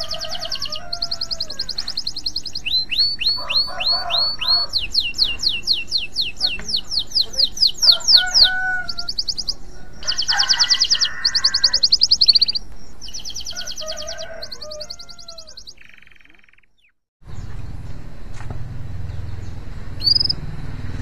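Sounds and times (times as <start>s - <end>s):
canary singing rapid trills: 0.0s - 17.5s, 19.3s - 20.4s.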